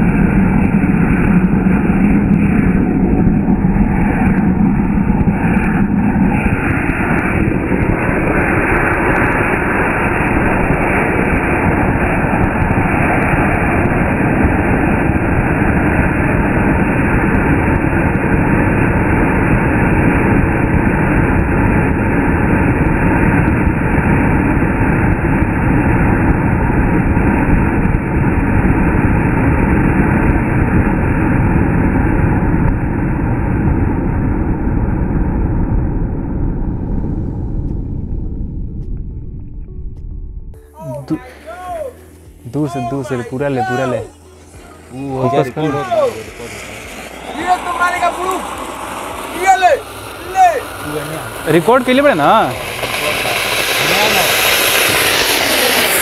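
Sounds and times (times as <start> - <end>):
firework fountain hissing: 0.0 - 32.6, 40.7 - 56.0.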